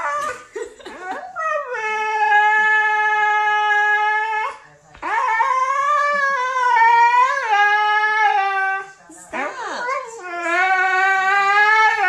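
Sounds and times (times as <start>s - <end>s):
dog howling: 1.4s - 12.0s.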